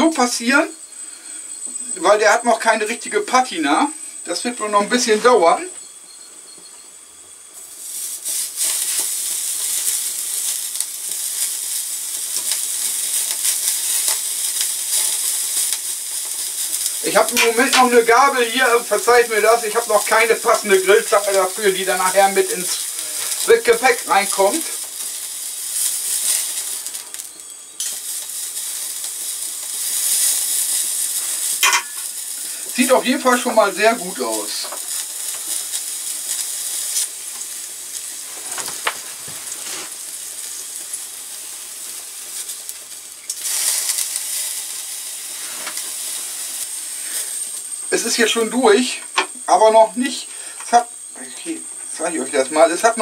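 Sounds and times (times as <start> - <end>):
steak sizzling on grill: 0.0 - 53.0.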